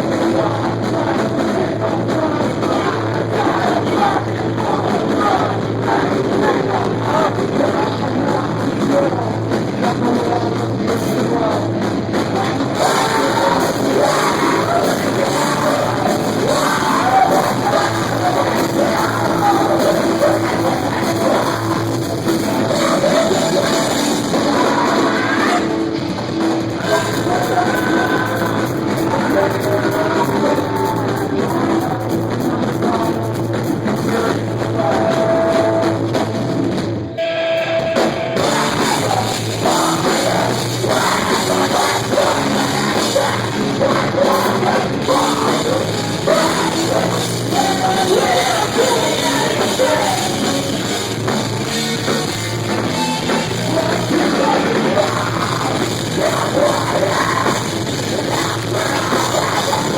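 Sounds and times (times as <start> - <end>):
distorted electric guitars: 0.0 - 59.9
person singing: 0.0 - 59.9
pounding drum kit: 0.0 - 59.9.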